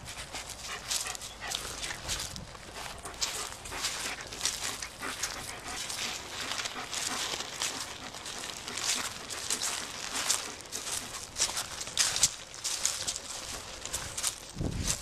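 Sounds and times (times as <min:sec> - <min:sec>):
rustling on dry grass and leaves: 0:00.0 - 0:15.0.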